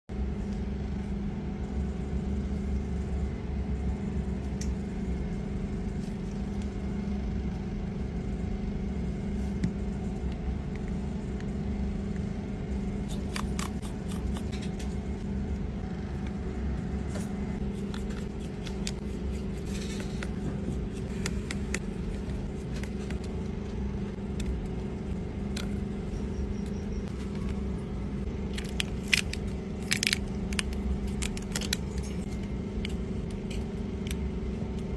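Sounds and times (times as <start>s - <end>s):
low machine hum: 0.1s - 34.9s.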